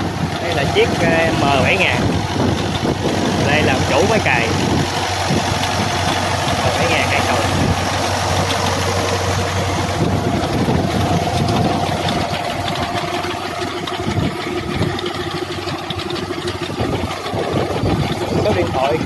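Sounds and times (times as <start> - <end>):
tractor diesel engine drone: 0.0 - 19.0.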